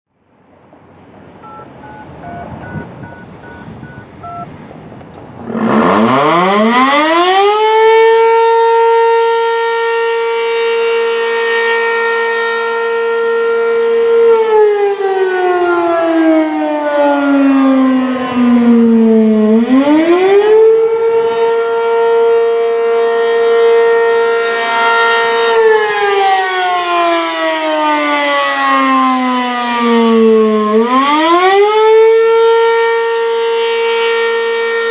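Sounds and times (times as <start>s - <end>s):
warning siren wailing: 1.3s - 34.9s.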